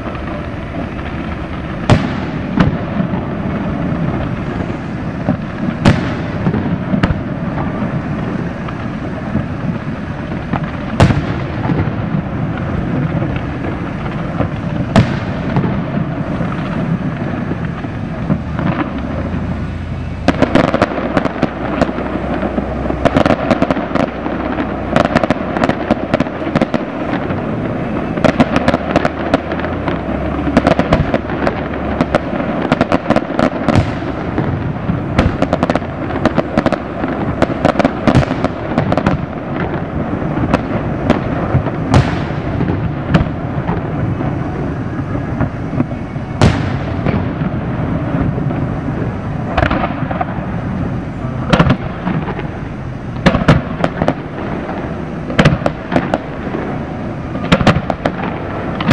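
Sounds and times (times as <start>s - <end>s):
firework bangs: 0.0s - 58.9s
firework hiss: 0.0s - 58.9s
steady rumble: 0.0s - 58.9s.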